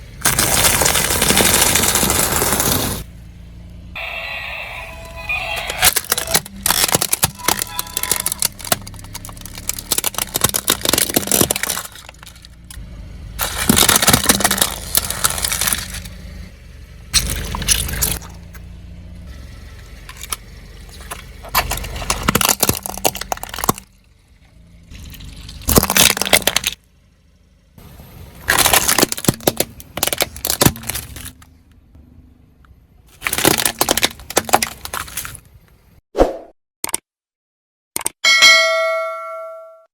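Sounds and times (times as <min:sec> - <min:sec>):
car tyre crushing crunchy objects: 0:00.0 - 0:03.9, 0:05.0 - 0:32.0, 0:32.7 - 0:36.0
low rumble of car: 0:00.0 - 0:36.0.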